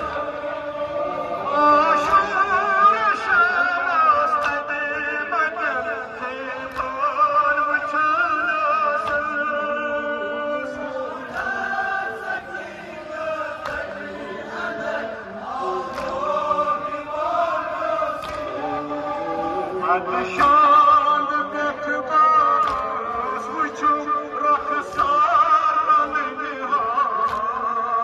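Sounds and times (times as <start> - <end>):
crowd chanting along: 0.0 - 28.0
man chanting over loudspeakers: 0.0 - 28.0.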